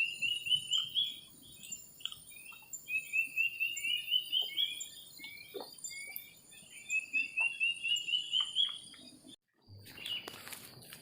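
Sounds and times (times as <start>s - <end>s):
rapid bird chirping: 0.0s - 10.4s.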